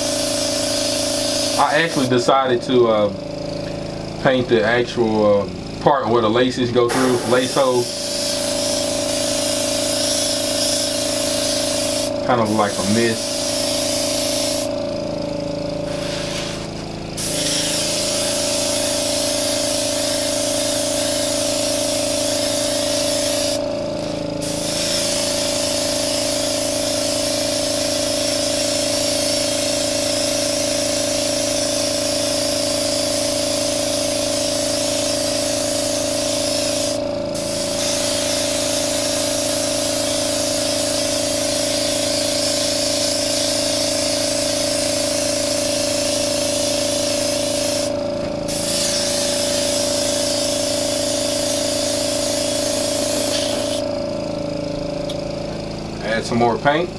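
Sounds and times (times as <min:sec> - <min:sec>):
airbrush spraying hiss: 0:00.0 - 0:02.2, 0:06.9 - 0:14.8, 0:15.8 - 0:53.9
air compressor hum: 0:00.0 - 0:56.9.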